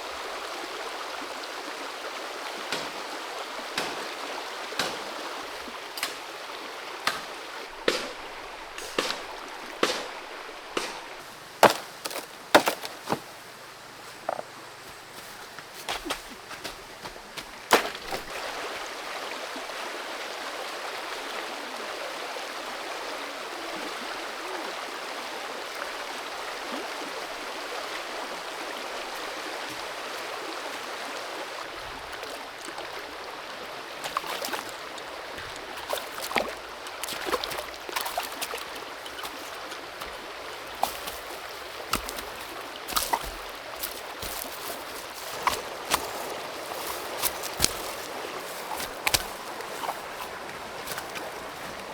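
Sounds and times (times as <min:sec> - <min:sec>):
forest creek running: 0:00.0 - 0:51.9.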